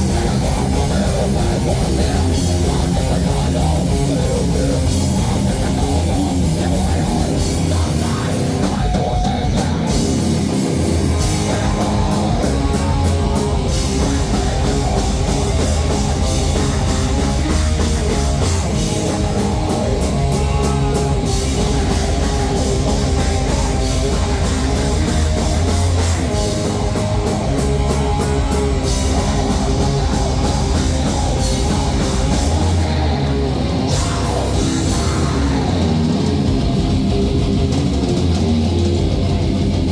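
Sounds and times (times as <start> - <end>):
fast cymbal and drum hits: 0.0 - 33.1
heavy metal band playing live: 0.0 - 39.9.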